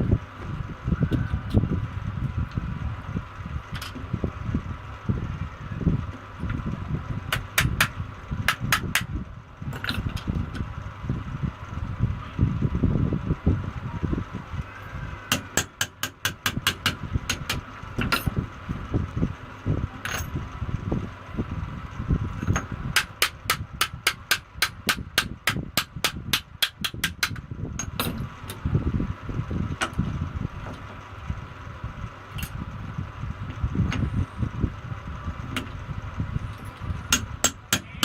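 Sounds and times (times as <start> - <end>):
low rumble: 0.0 - 15.3, 16.6 - 38.0.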